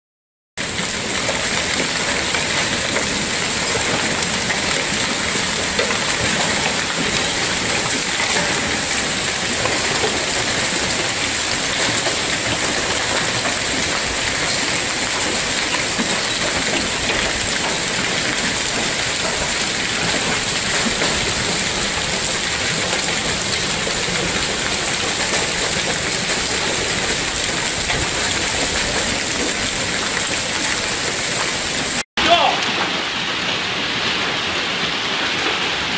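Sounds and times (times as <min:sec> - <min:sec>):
heavy rain and hail falling: 0:00.6 - 0:35.9.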